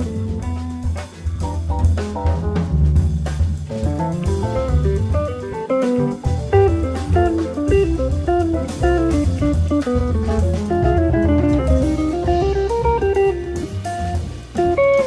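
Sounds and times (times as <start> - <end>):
guitar melody: 0.0 - 3.0, 3.6 - 15.0
bass line: 0.0 - 15.0
drum kit: 0.0 - 15.0.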